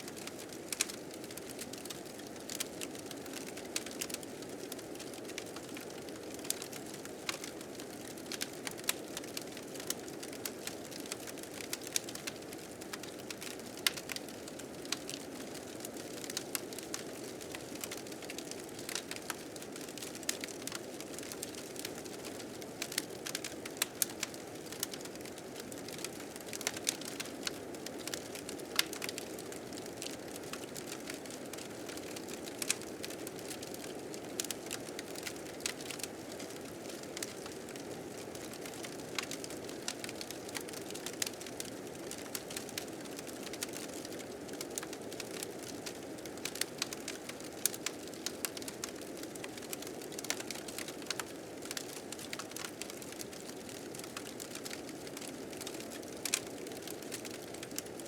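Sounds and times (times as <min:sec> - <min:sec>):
wood fire crackling and popping: 0:00.1 - 0:58.0.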